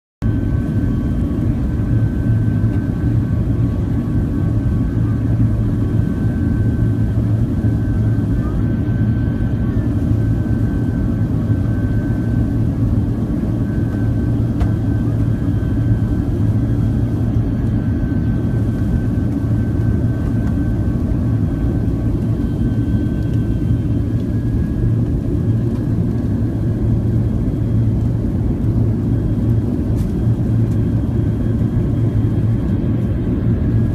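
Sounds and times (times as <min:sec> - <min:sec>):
airliner cabin engine rumble: 0:00.2 - 0:33.9.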